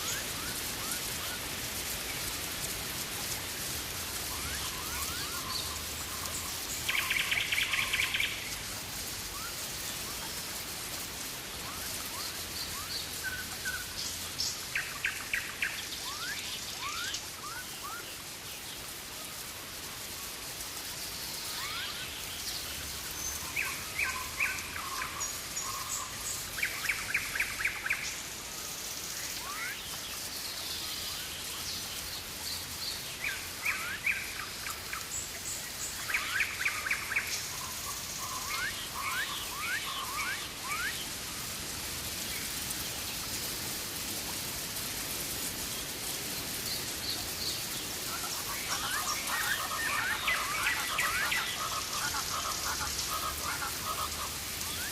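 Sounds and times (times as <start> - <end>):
rainforest birds calling: 0.0 - 54.9
steady hiss of rain: 0.0 - 54.9.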